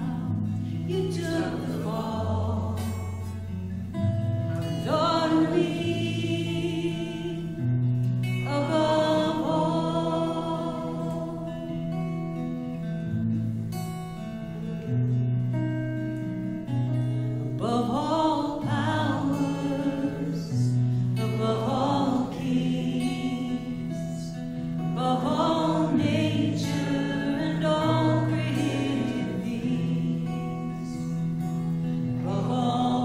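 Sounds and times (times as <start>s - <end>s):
person singing a hymn: 0.0s - 3.3s, 4.6s - 12.4s, 17.6s - 33.0s
guitar: 0.0s - 33.0s.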